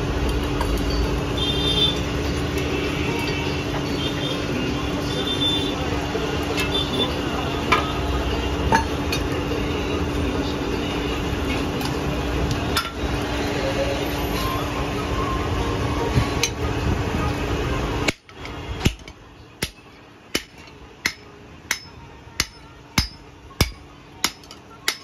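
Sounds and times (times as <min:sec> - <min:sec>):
forge blower air rushing: 0:03.7 - 0:24.4.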